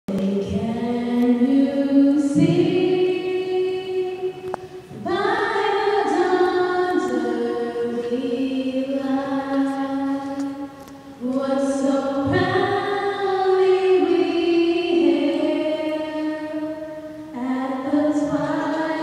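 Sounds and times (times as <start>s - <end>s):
person singing unaccompanied: 0.1s - 19.0s.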